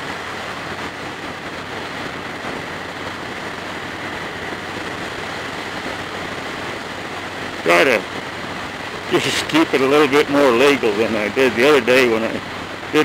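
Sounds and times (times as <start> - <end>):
motorcycle engine drone: 0.0 - 13.0
wind rush: 0.0 - 13.0.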